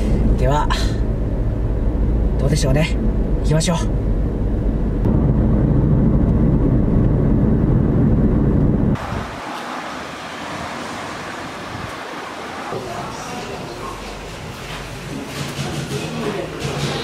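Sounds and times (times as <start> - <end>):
car engine and tyre rumble: 0.0 - 15.3.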